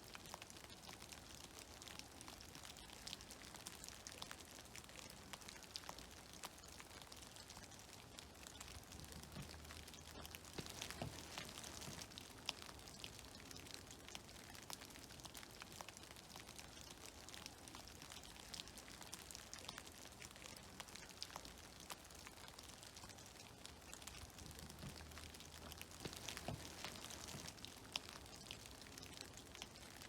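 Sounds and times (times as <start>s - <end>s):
meltwater drops pattering: 0.0s - 30.0s.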